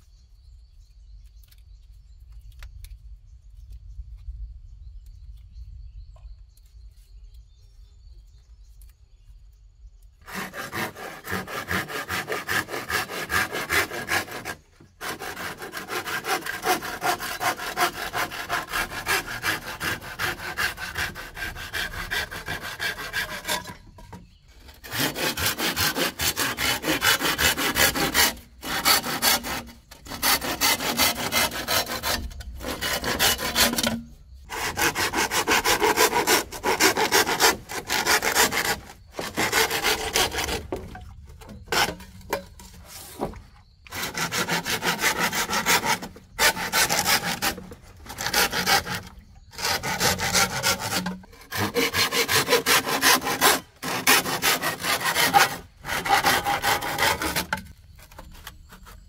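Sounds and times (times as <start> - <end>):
hand saw cutting bamboo: 10.2 - 59.0.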